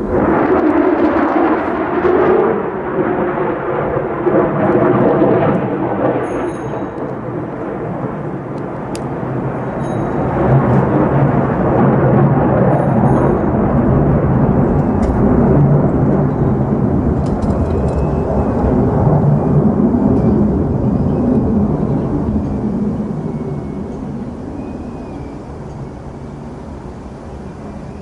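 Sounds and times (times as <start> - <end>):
jet engine rumble flying past: 0.0 - 28.0.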